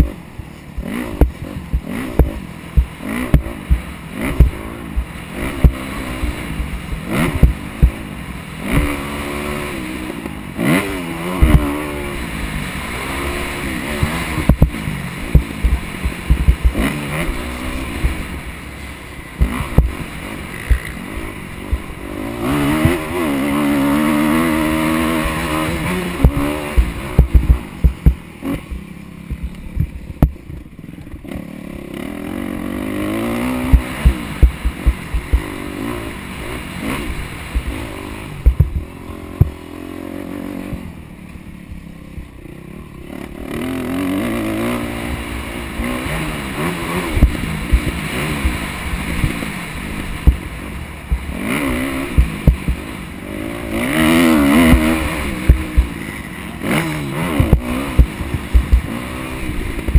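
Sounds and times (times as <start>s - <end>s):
bike thumping on rough track: 0.0s - 12.2s, 13.2s - 31.2s, 33.5s - 40.0s, 44.6s - 59.9s
dirt bike engine revving: 0.0s - 59.9s.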